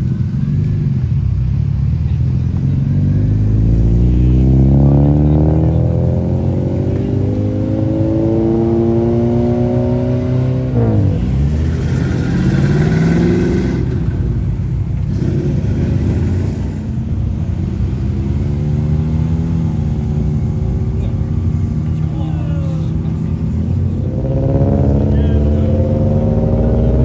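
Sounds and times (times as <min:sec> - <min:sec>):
car engine accelerating hard: 0:00.0 - 0:27.0
another engine revving: 0:02.6 - 0:21.6, 0:22.9 - 0:27.0.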